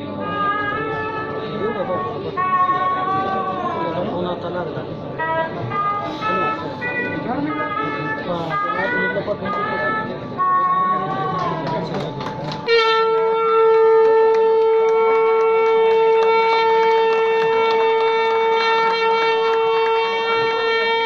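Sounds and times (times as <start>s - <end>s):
wind instrument long steady note: 0.0s - 21.0s.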